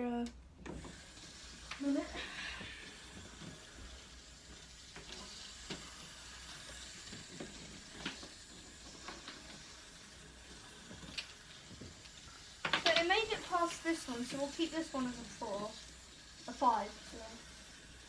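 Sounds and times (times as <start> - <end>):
dominoes clicking and tapping: 0.9 - 18.0.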